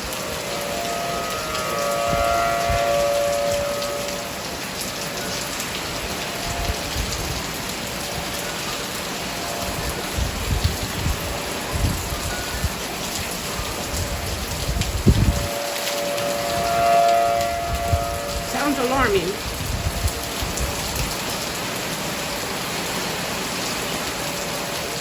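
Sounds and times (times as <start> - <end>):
warning siren wailing: 0.0 - 21.0
heavy rain: 0.0 - 25.0.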